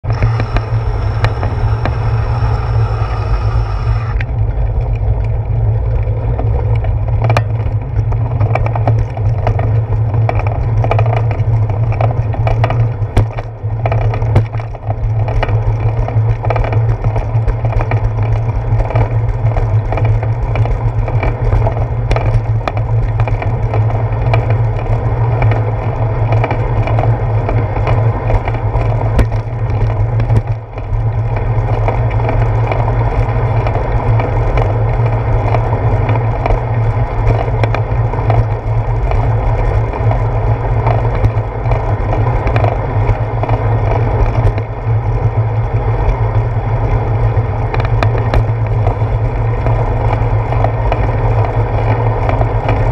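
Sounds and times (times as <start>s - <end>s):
bicycle rolling on concrete: 0.0s - 52.9s.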